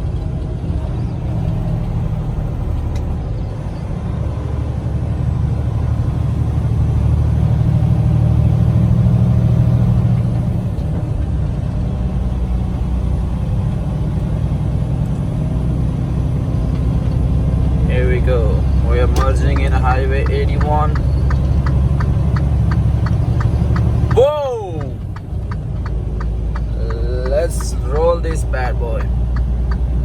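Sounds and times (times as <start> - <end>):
truck diesel engine droning: 0.0 - 30.0.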